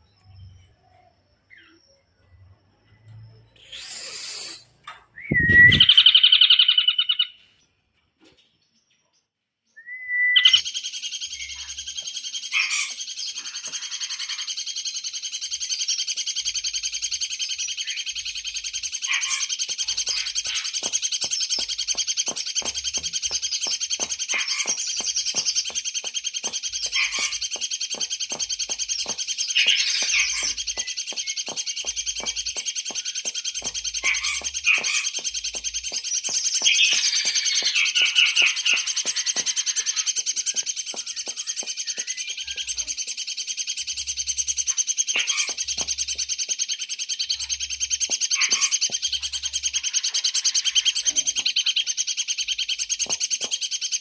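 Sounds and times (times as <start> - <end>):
songbird singing: 0.0 - 54.0
high rapid bird trill: 3.6 - 7.4, 10.4 - 54.0.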